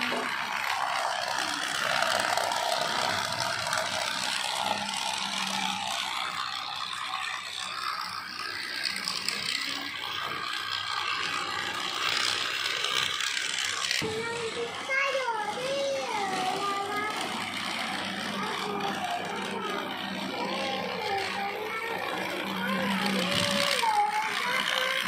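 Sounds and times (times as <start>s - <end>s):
toy train motor whir: 0.0s - 25.0s.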